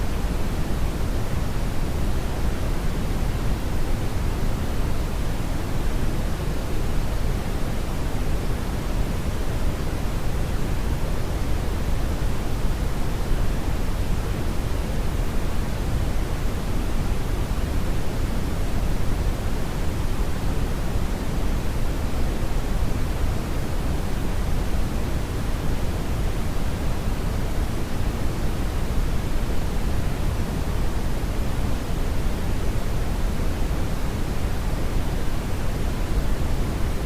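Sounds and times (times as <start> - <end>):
red noise hiss-rumble: 0.0 - 37.0.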